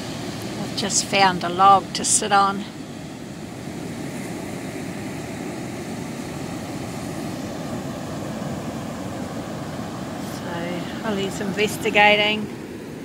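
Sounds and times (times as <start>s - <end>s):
breaking surf: 0.0s - 13.0s.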